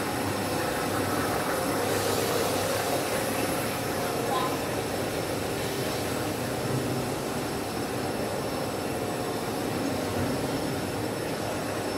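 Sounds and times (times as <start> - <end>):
steady machine noise: 0.0 - 11.9.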